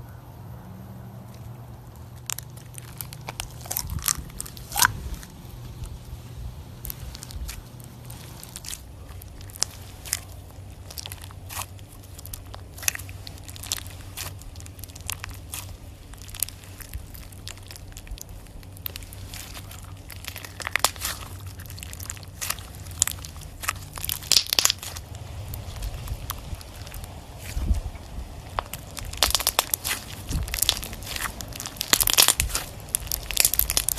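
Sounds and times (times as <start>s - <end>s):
faint low hum: 0.0s - 33.9s
slime crackling and popping: 1.9s - 6.0s, 6.8s - 33.9s.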